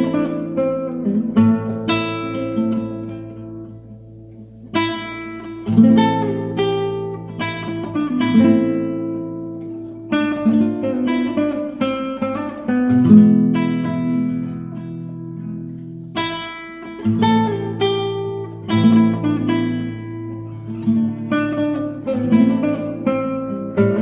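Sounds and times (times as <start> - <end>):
guitar melody over chords: 0.0 - 24.0.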